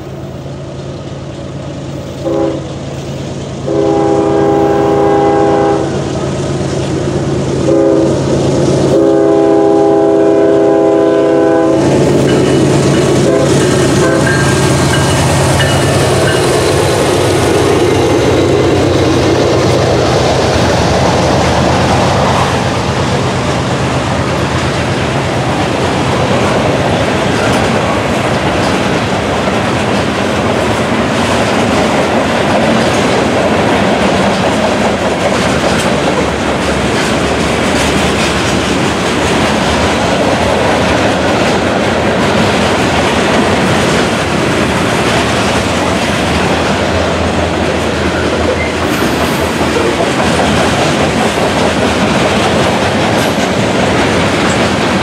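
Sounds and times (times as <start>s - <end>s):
clickety-clack over rail joints: 0.0s - 55.0s
diesel locomotive engine drone: 0.0s - 55.0s
train wheels rumbling on rail: 0.0s - 55.0s.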